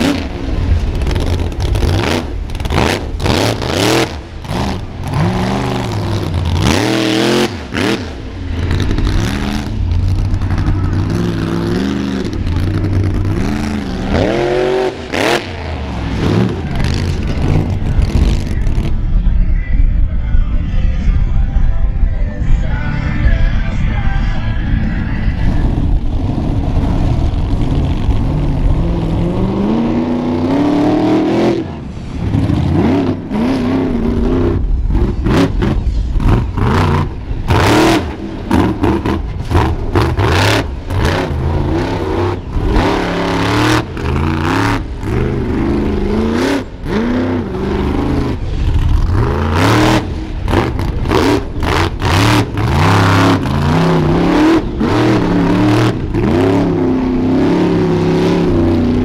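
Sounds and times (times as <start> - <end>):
truck engine revving hard: 0.0 - 19.0, 25.4 - 59.0.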